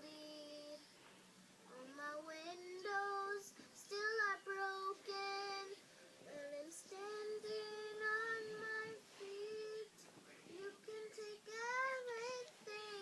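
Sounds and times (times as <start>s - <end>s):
girl singing: 0.0s - 0.9s, 1.7s - 13.0s.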